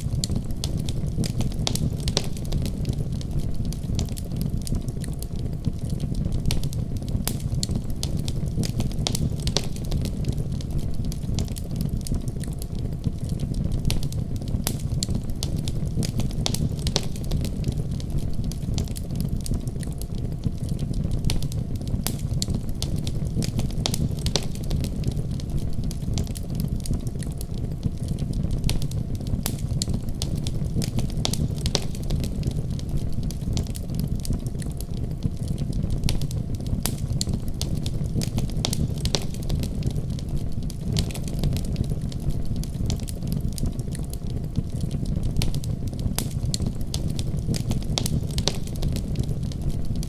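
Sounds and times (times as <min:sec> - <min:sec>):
fire crackling and popping: 0:00.0 - 0:50.0
wood fire rumbling: 0:00.0 - 0:50.0.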